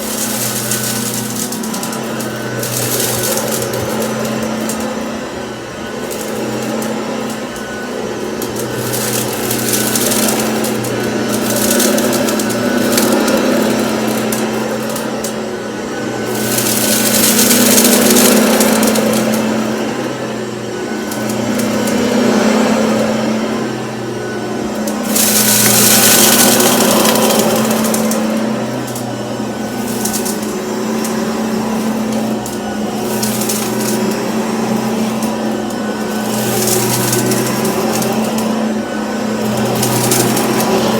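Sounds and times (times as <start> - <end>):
oatmeal crackling in vacuum: 0.0 - 40.9
stick vacuum running: 0.0 - 40.9.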